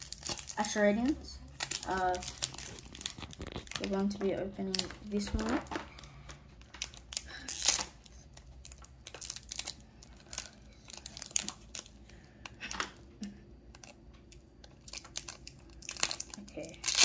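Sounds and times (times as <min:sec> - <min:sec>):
foil wrapper crinkling and tearing: 0:00.0 - 0:13.0, 0:13.7 - 0:17.0.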